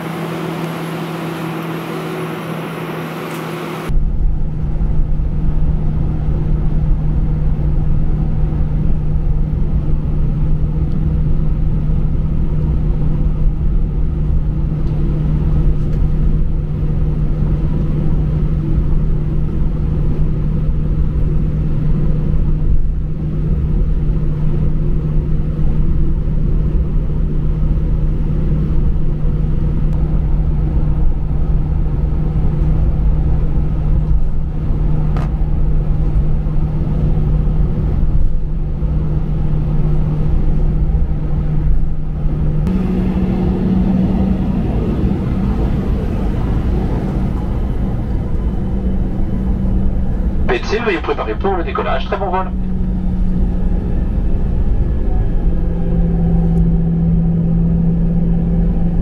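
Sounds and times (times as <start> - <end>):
aircraft cabin engine rumble: 0.0 - 59.0
steady hum: 0.0 - 59.0.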